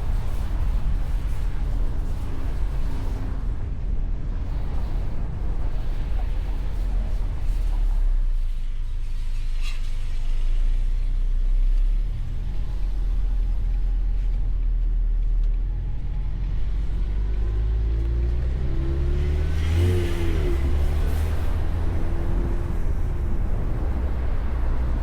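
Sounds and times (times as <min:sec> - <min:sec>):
car engine running while driving: 0:00.0 - 0:25.0
road rumble: 0:00.0 - 0:25.0.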